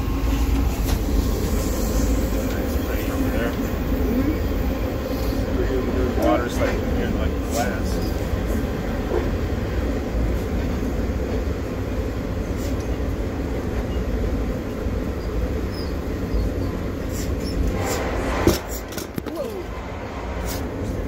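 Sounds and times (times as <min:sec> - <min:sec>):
train rumbling from inside: 0:00.0 - 0:21.0.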